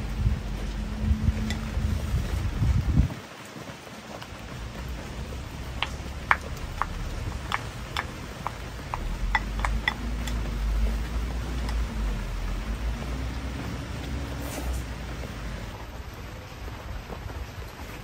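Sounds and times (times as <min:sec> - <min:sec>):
low rumble: 0:00.0 - 0:03.2, 0:04.3 - 0:18.0.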